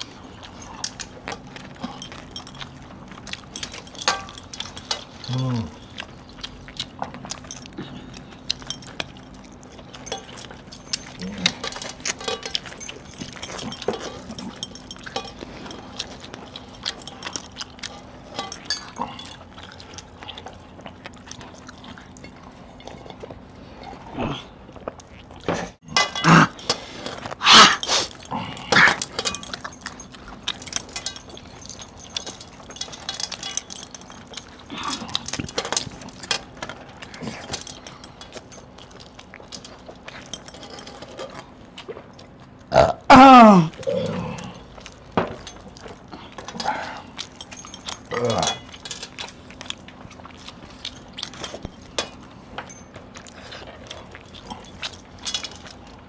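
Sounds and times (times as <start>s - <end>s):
metal rings clinking on steel plate: 0.0s - 5.8s, 8.5s - 20.7s, 25.8s - 41.4s, 44.0s - 56.0s
chewing and smacking: 0.0s - 43.1s, 43.7s - 56.0s.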